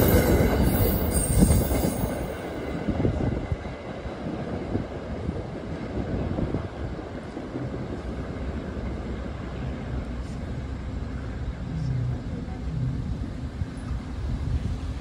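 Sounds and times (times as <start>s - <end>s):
train rumbling by: 0.0s - 15.0s.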